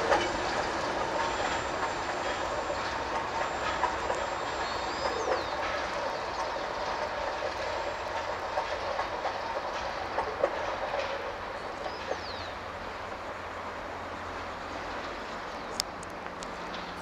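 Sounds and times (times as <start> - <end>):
freight train wheels clacking: 0.0 - 17.0.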